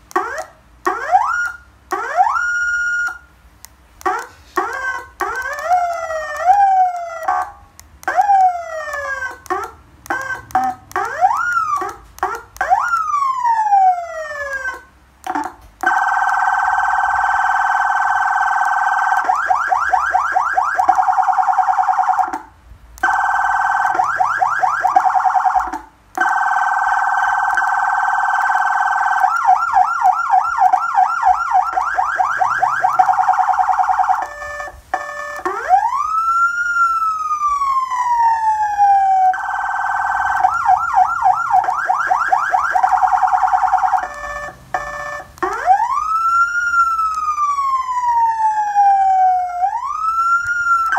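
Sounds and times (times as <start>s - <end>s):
electronic siren blaring and yelping: 0.1s - 3.3s, 4.0s - 50.9s
siren slow wail: 0.1s - 3.3s, 4.0s - 50.9s.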